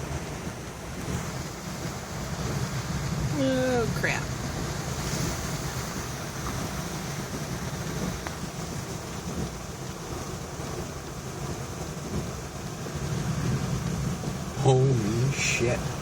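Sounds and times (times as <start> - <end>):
surf breaking: 0.0 - 16.0
wind rumbling on microphone: 0.0 - 16.0.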